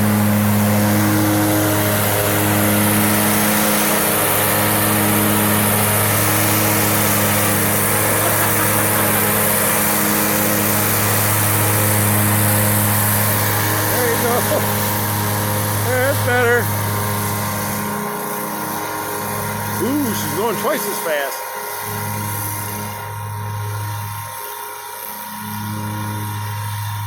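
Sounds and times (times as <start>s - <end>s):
mowing deck hiss: 0.0s - 27.0s
riding mower engine hum: 0.0s - 27.0s.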